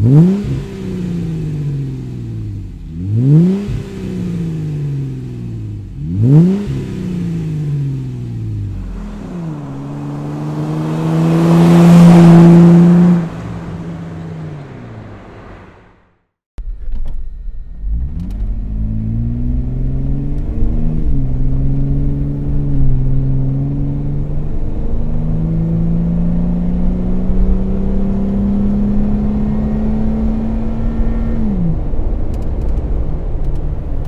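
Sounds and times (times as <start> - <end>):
car engine drone in cabin: 0.0 - 34.0
low road rumble: 0.0 - 34.0.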